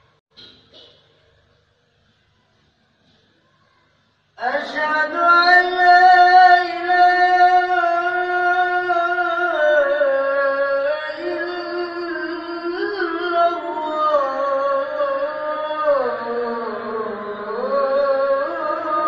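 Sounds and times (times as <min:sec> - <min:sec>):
boy chanting call to prayer: 0:03.6 - 0:19.0.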